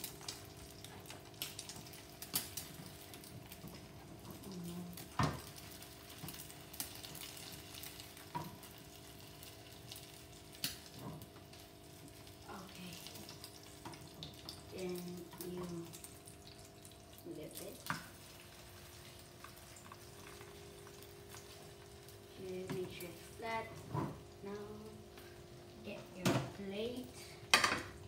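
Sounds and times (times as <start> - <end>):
egg sizzling in a pan: 0.0 - 28.0.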